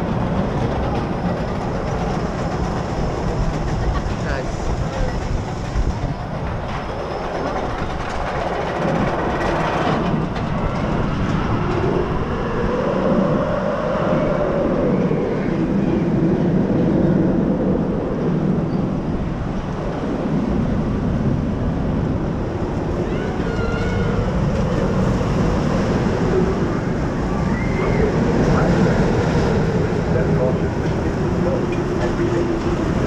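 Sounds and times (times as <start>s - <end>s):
ride mechanical rumble and clatter: 0.0s - 33.0s.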